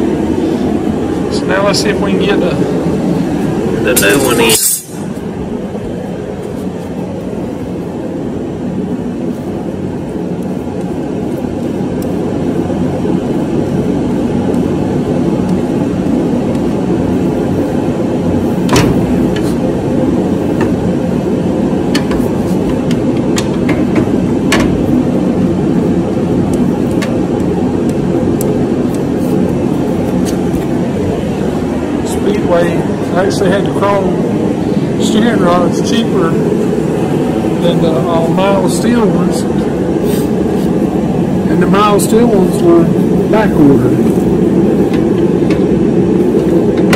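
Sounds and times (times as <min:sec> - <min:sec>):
shop background drone: 0:00.0 - 0:46.9.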